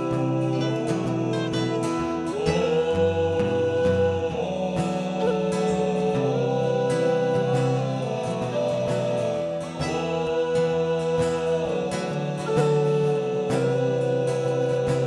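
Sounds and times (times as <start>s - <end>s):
acoustic strings plucked and strummed: 0.0s - 15.0s
whistle playing held notes: 0.0s - 15.0s.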